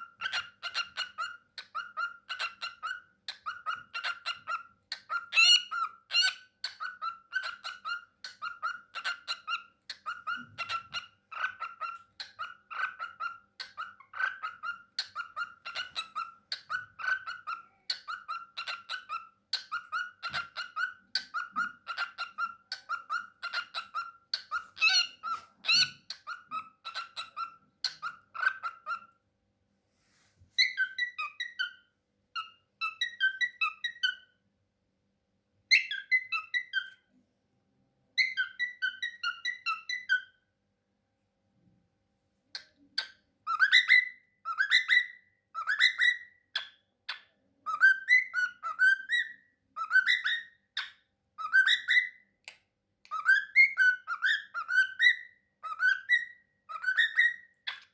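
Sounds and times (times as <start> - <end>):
cockatiel chattering: 0.0 - 29.1, 30.6 - 31.8, 32.4 - 34.3, 35.7 - 37.0, 38.2 - 40.3, 42.6 - 52.2, 53.1 - 57.9.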